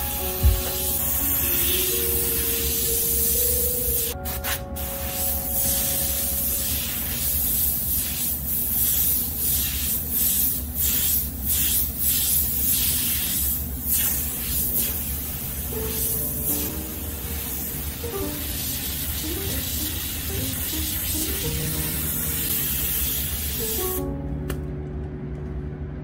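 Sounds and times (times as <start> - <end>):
airbrush spraying hiss: 0.0 - 24.1.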